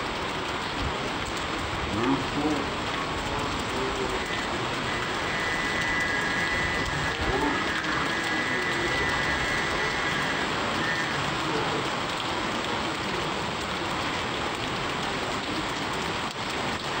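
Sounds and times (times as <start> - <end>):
heavy rain on wet road: 0.0 - 17.0.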